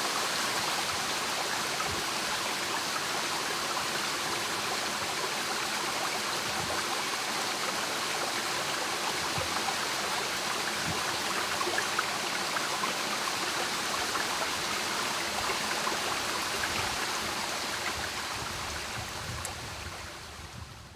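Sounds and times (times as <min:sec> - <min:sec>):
stream water running over rocks: 0:00.0 - 0:20.9.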